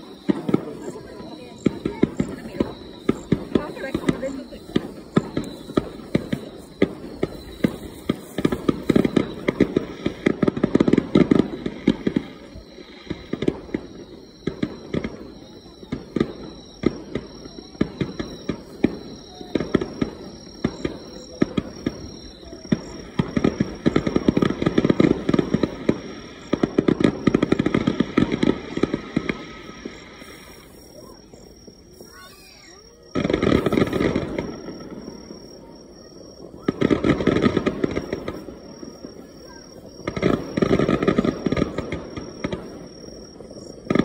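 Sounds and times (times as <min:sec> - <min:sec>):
fireworks crackling and bursting: 0:00.0 - 0:44.0.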